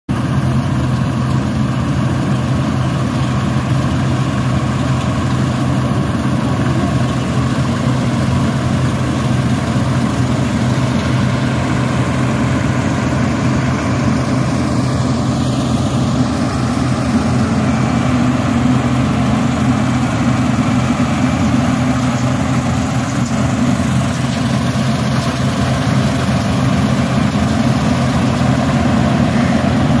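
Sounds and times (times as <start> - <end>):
combine harvester engine running: 0.1 - 30.0.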